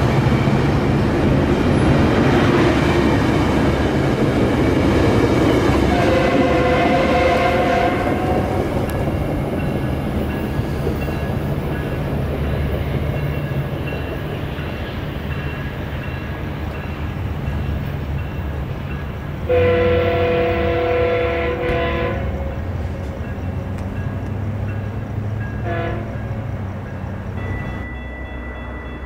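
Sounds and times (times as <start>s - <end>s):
locomotive engine rumbling: 0.0s - 29.0s.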